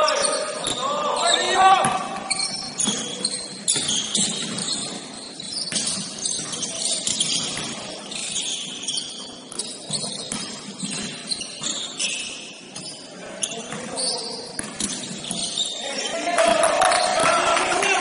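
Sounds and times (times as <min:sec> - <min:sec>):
sneakers squeaking on hardwood: 0:00.0 - 0:17.2.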